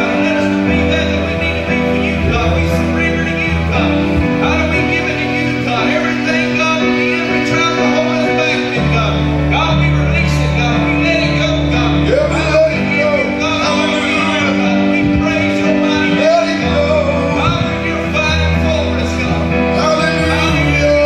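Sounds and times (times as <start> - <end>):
gospel band playing: 0.0 - 21.0
voices singing: 0.0 - 21.0.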